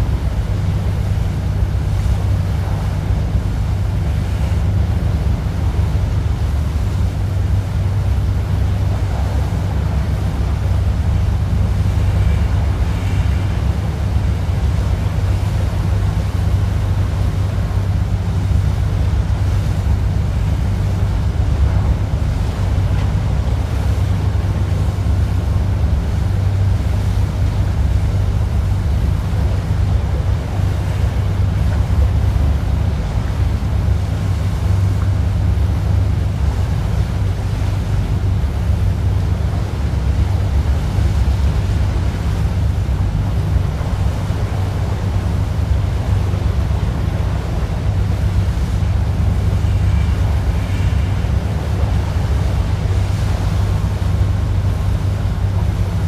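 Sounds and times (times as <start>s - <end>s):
boat engine rumble: 0.0s - 56.0s
water washing past hull: 0.0s - 56.0s
wind on microphone: 0.0s - 56.0s.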